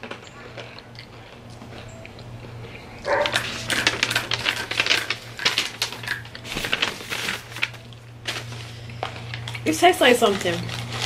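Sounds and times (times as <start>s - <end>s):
crunchy potato sticks chewed: 0.0s - 9.6s, 10.3s - 11.0s.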